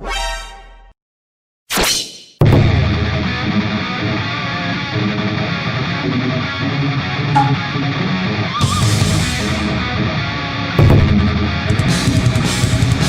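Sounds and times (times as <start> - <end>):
rock music with guitar: 2.5 - 13.0.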